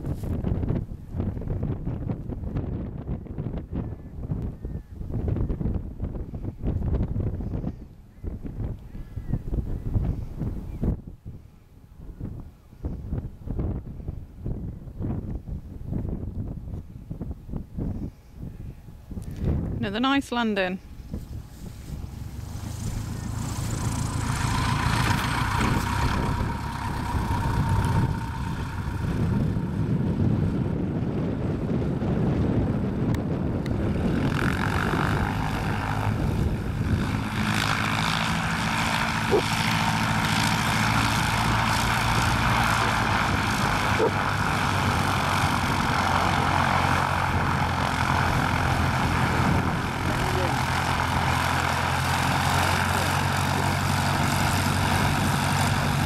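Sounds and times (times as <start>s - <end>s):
light aircraft propeller engine: 0.0s - 56.0s.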